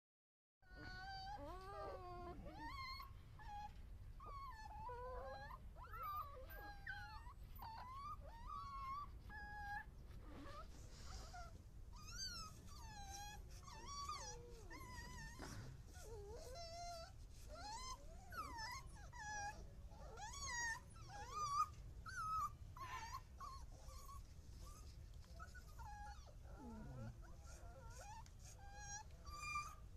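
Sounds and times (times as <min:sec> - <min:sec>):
puppies whimpering: 0:00.7 - 0:29.9.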